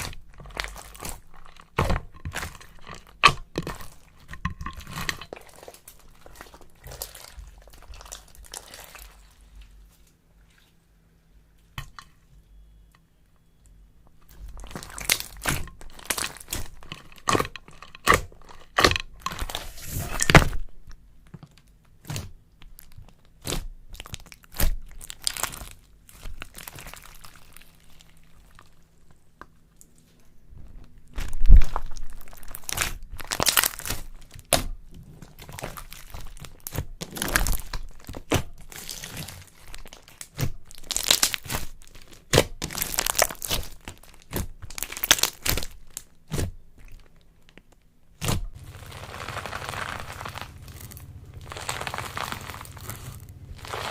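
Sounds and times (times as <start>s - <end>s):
slime crackling and crunching: 0.0s - 10.2s, 14.3s - 21.0s, 21.6s - 29.1s, 30.6s - 53.9s.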